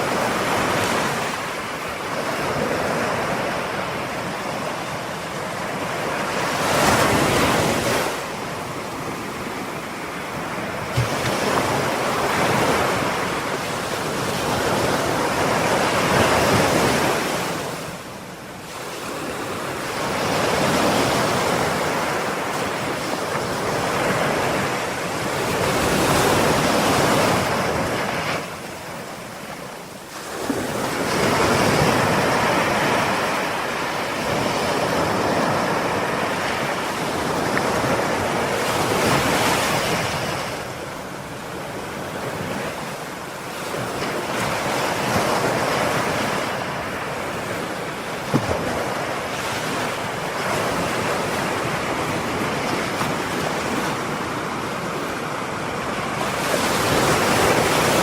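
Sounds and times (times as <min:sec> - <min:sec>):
ocean waves breaking on shore: 0:00.0 - 0:58.0
wind on microphone: 0:00.0 - 0:58.0.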